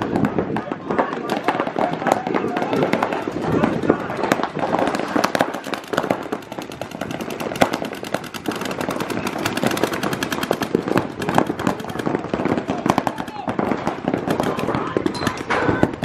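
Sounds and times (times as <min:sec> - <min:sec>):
paintball markers firing: 0:00.0 - 0:16.0.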